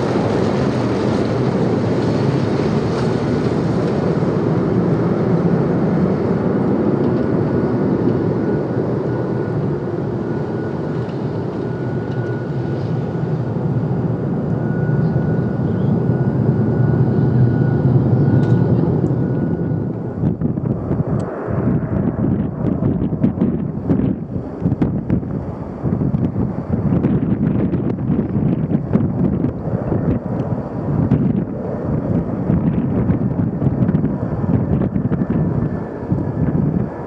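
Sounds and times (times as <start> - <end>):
jet engines at takeoff: 0.0 - 37.0
wind on microphone: 0.0 - 37.0.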